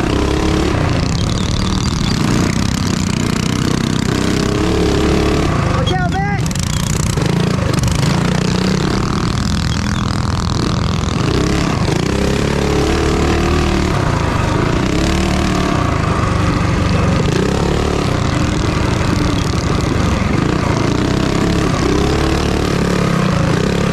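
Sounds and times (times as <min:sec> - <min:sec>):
minibike engines revving: 0:00.0 - 0:23.9.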